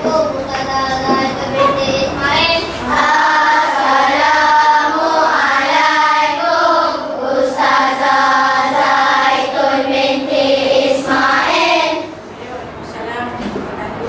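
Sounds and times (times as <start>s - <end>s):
children chanting in unison: 0.0s - 12.2s.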